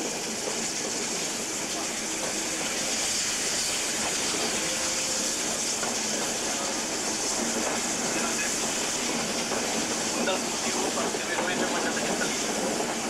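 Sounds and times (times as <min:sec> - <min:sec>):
rushing noise of moving train: 0:00.0 - 0:13.0
steam locomotive hiss: 0:00.0 - 0:13.0.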